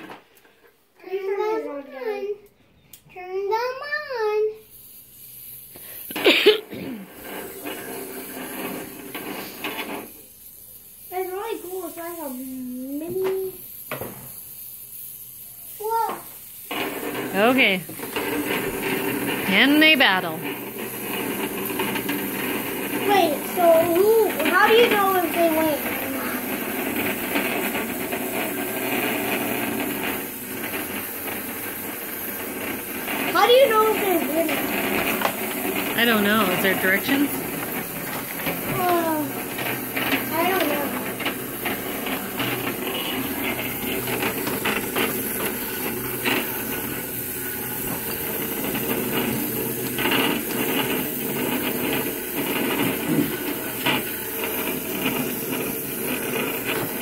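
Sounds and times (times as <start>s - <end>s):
toy robots buzzing and rattling: 0.0s - 57.0s.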